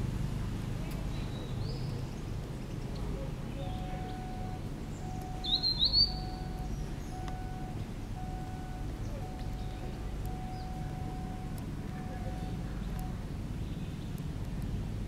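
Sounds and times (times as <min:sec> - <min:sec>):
low background rumble: 0:00.0 - 0:15.0
birds chirping: 0:00.9 - 0:14.6.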